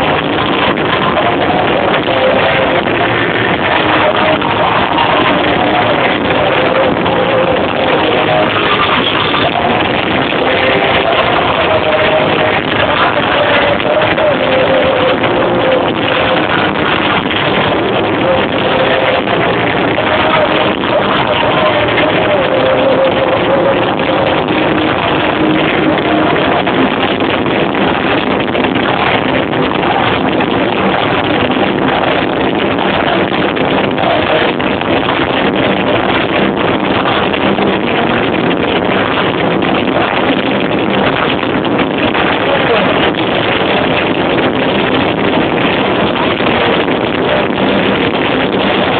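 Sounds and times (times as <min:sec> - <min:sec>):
distorted electric guitar solo: 0:00.0 - 0:48.9.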